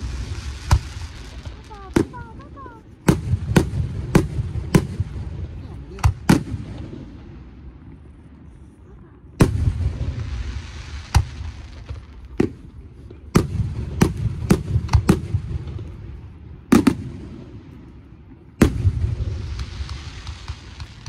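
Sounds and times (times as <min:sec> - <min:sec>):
faint firework crackling: 0:00.0 - 0:21.0
low rolling echo: 0:00.0 - 0:21.0.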